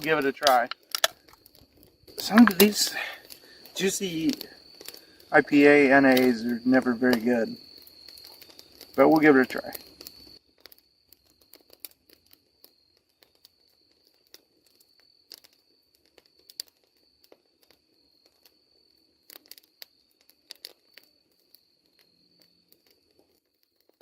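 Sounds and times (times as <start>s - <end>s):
crackles and sharp clicks: 0.0s - 24.0s.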